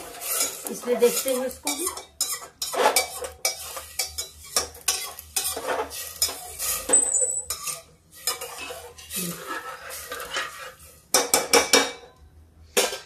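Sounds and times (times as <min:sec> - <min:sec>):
metal ladle scraping a pot: 0:00.0 - 0:11.2.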